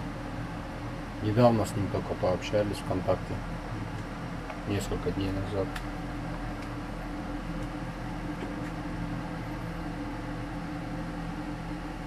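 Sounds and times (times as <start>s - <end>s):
extractor fan humming: 0.0s - 12.0s.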